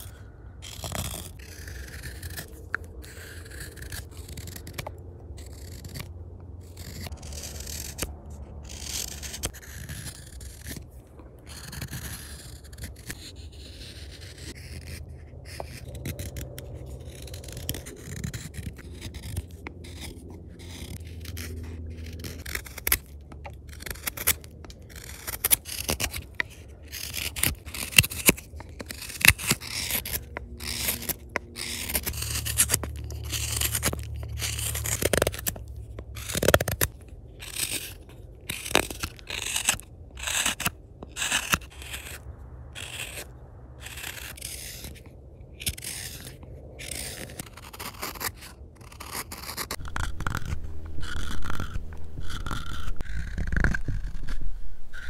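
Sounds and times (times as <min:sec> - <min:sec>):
knife carving wood: 0:00.0 - 0:55.0
knife scraping wood: 0:00.0 - 0:55.0.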